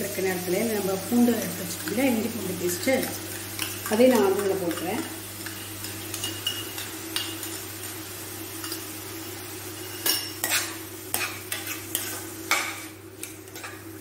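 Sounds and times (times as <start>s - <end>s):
onions sizzling in a pan: 0.0s - 14.0s.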